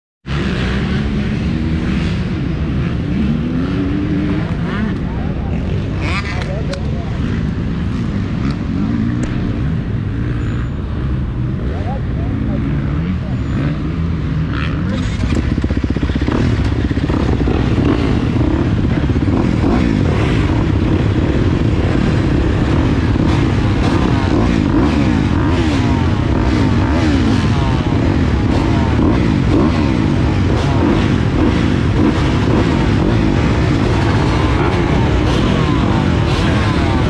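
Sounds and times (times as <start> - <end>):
motocross bike engines revving: 0.3 - 37.0.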